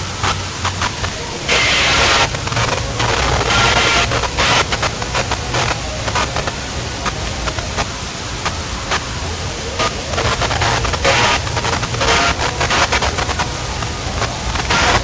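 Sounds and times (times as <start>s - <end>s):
distorted loud dance music: 0.0s - 7.9s, 8.5s - 15.0s
sharp crackling bursts: 0.0s - 15.0s.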